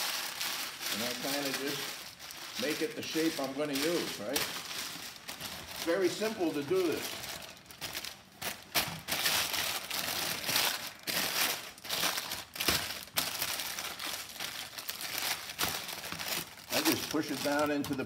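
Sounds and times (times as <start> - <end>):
parchment paper crinkling: 0.0 - 18.0.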